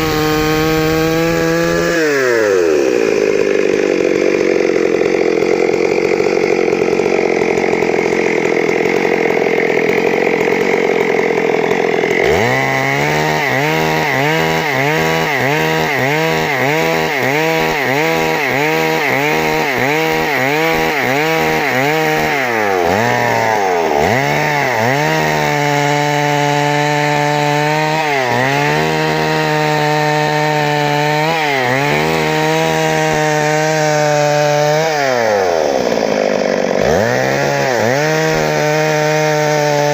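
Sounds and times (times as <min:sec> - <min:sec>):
chainsaw engine running at high speed: 0:00.0 - 0:39.9.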